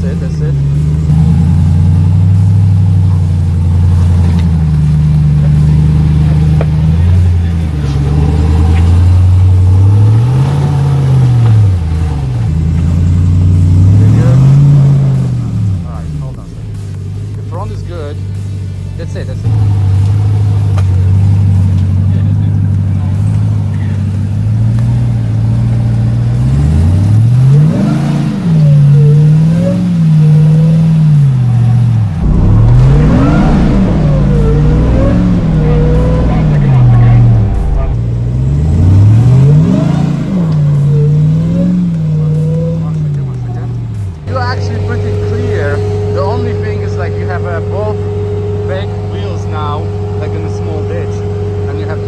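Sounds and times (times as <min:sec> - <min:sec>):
off-road vehicle engine: 0:00.0 - 0:52.0.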